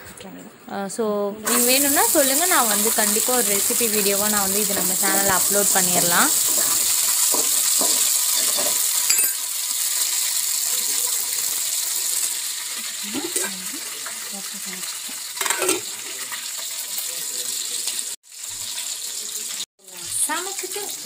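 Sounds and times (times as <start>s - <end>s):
garlic sizzling in hot oil: 1.4s - 21.0s.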